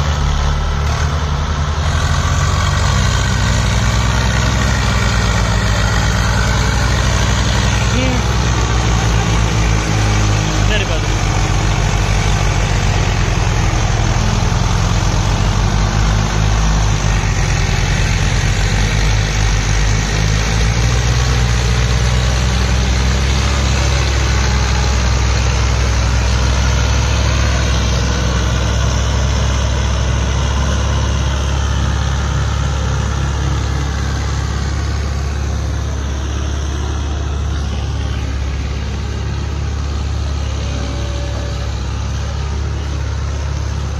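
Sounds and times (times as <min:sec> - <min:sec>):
diesel tractor engines droning: 0:00.0 - 0:43.9.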